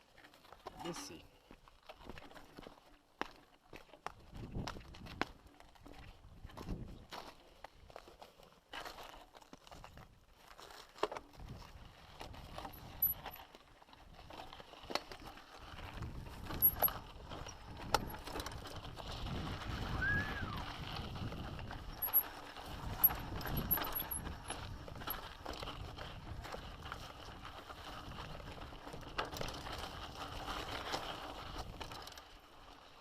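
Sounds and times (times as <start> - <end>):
footsteps on rocky trail: 0.1 - 32.2
mountain bike rattling and clicking: 1.6 - 33.0.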